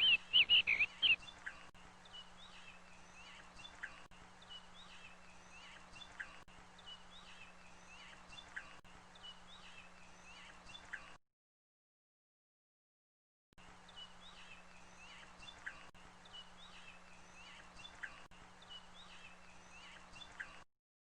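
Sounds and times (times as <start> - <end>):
small birds chirping: 0.0 - 11.2, 13.7 - 20.6.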